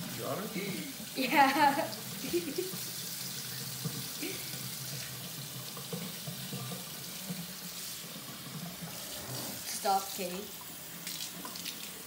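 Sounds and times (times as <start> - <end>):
water running into a sink: 0.0 - 12.0.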